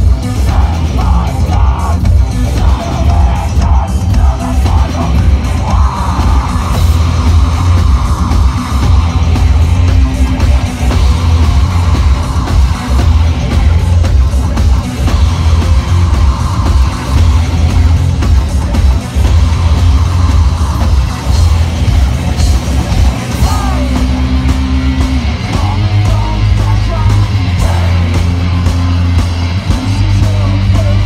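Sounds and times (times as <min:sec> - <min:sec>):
bass: 0:00.0 - 0:31.0
heavy drums: 0:00.0 - 0:31.0
heavy metal band playing: 0:00.0 - 0:31.0.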